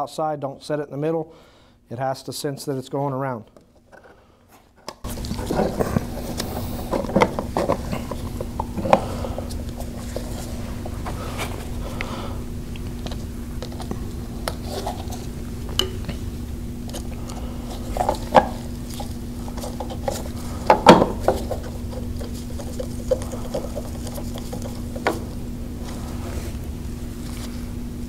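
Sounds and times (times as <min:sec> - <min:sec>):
low hum: 0:05.1 - 0:28.0.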